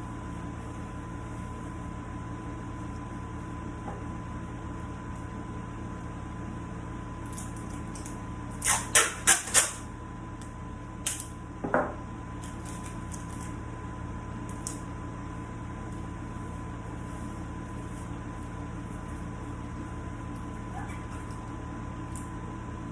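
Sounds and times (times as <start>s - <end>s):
steady hum: 0.0s - 22.9s.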